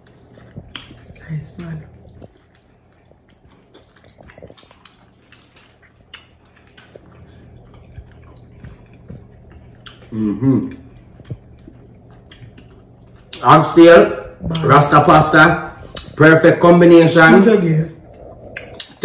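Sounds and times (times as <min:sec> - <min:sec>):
appreciative hum: 0:00.0 - 0:19.0
people chewing: 0:00.0 - 0:19.0.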